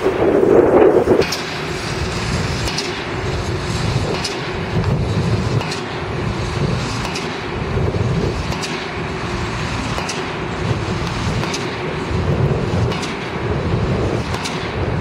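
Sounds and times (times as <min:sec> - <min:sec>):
construction machinery engine drone: 0:00.0 - 0:15.0.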